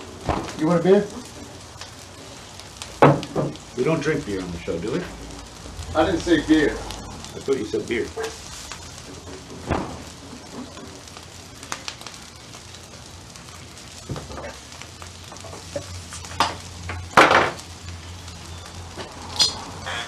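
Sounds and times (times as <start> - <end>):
rice sizzling in oil: 0.0 - 20.0.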